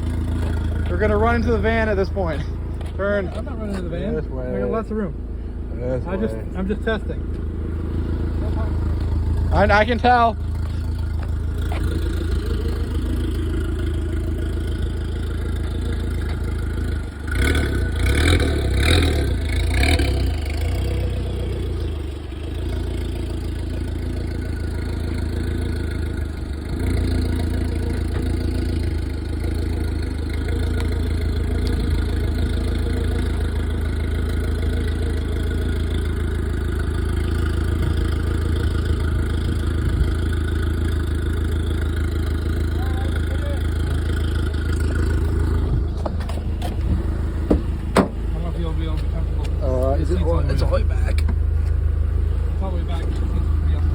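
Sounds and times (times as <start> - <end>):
car engine running: 0.0 - 53.9.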